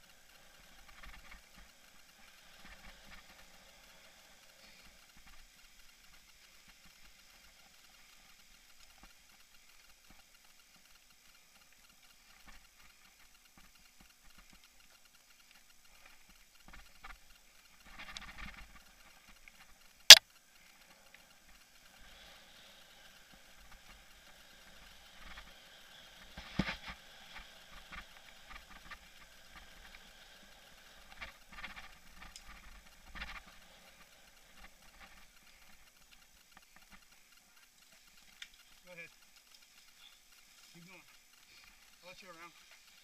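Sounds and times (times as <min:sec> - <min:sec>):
bike rattling over rough trail: 0:00.0 - 0:43.0.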